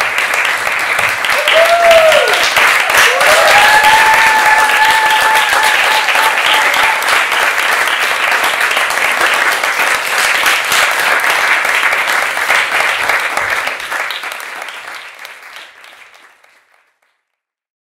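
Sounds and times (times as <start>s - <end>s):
audience applauding: 0.0s - 17.3s.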